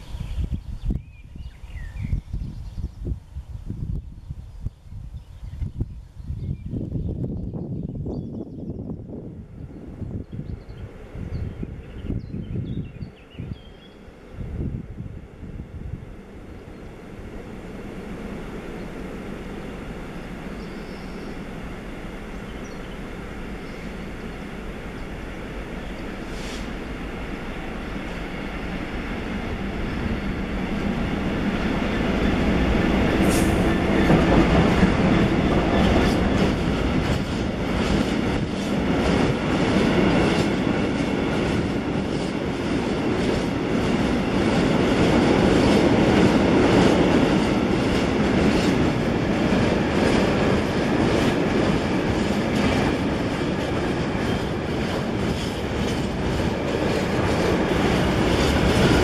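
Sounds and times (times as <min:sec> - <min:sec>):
freight train rumbling: 0:00.0 - 0:59.0.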